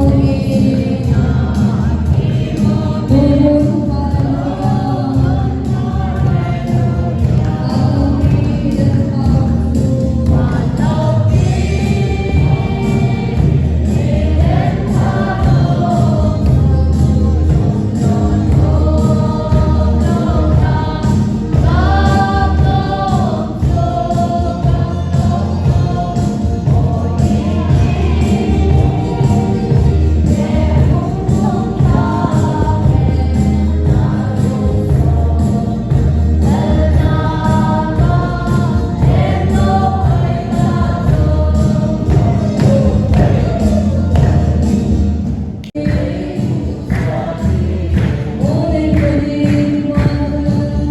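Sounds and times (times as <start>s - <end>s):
group singing gospel music: 0.0s - 50.9s
heavy beat: 0.0s - 50.9s.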